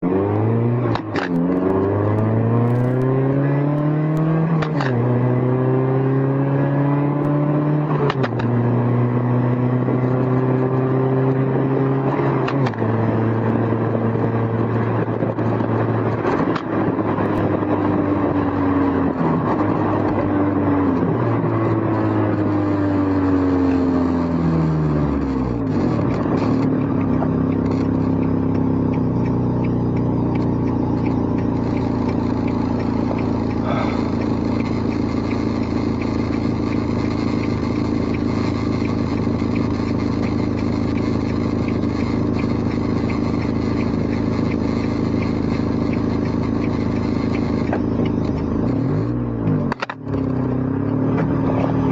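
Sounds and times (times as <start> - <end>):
car engine shifting gears: 0.0 - 51.9.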